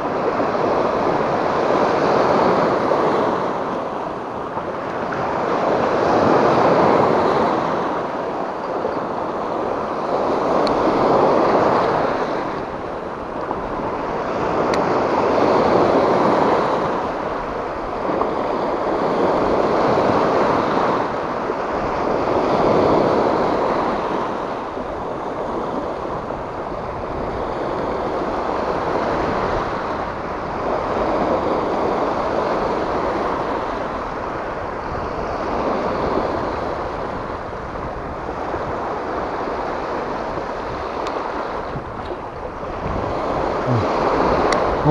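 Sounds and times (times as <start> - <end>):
waves breaking on rocks: 0.0 - 44.9.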